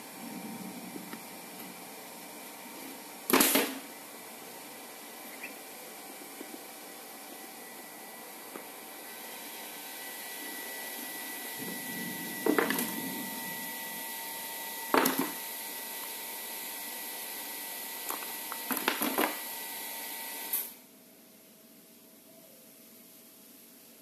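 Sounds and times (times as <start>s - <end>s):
steady hiss with high whine: 0.0s - 24.0s.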